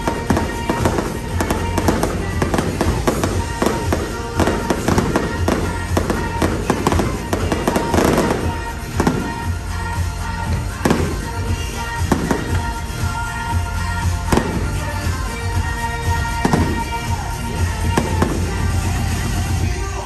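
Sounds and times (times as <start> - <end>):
fireworks bangs and crackles: 0.0 - 19.7
loud music: 0.0 - 20.0.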